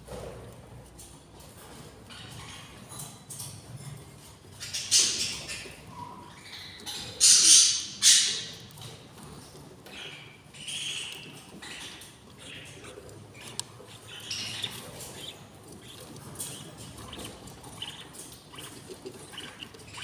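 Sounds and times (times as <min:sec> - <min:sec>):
budgies chirping: 0:02.0 - 0:03.5, 0:04.2 - 0:20.0.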